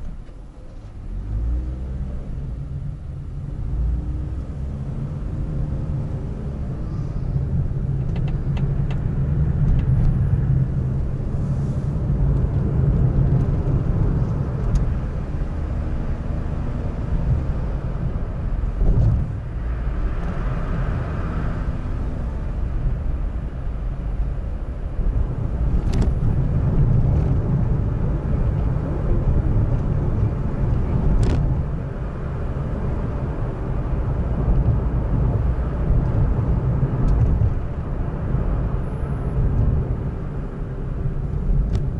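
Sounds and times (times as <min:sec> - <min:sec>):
road rumble inside car: 0:00.0 - 0:41.9.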